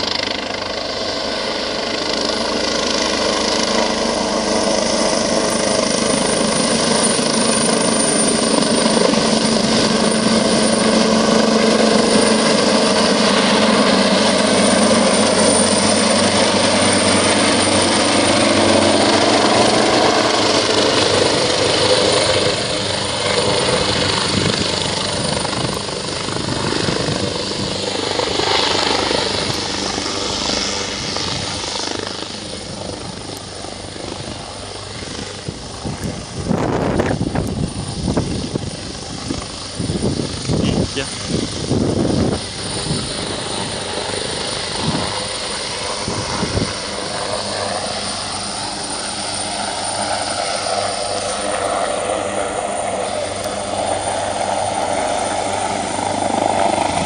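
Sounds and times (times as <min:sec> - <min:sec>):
helicopter rotor and turbine: 0:00.0 - 0:57.0
high turbine whine: 0:00.0 - 0:57.0.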